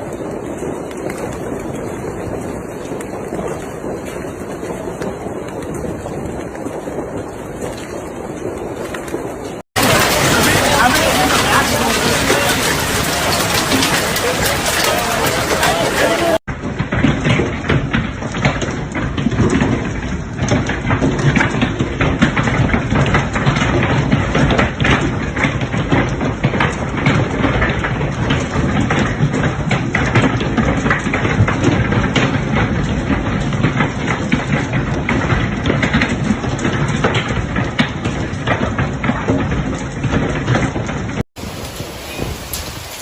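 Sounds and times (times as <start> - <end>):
hailstones pelting down: 0.0 - 43.0
rain-like rush: 0.0 - 43.0.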